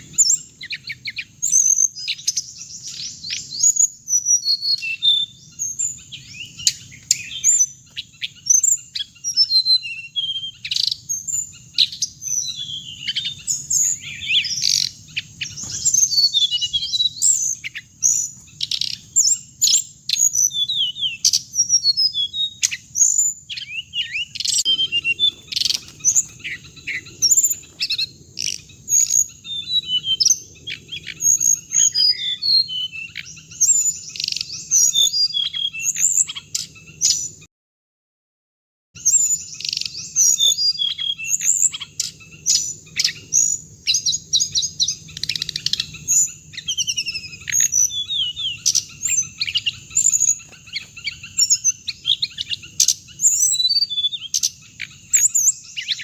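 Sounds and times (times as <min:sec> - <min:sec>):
songbirds chirping in chorus: 0:00.0 - 0:37.5, 0:39.0 - 0:56.0.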